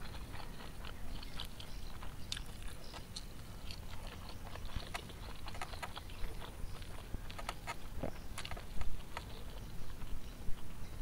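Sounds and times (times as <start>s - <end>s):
fingers squeezing food wet clicks: 0.0s - 10.7s.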